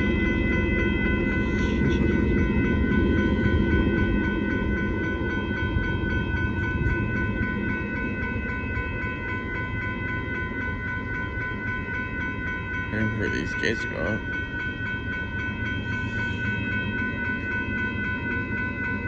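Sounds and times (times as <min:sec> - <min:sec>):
crossing warning bell ringing: 0:00.0 - 0:19.0.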